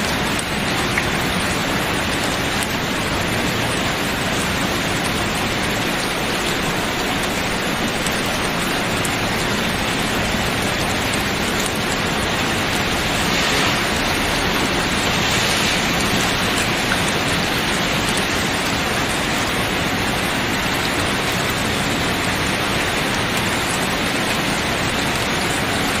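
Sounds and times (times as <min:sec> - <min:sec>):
rain on tent canvas: 0:00.0 - 0:26.0.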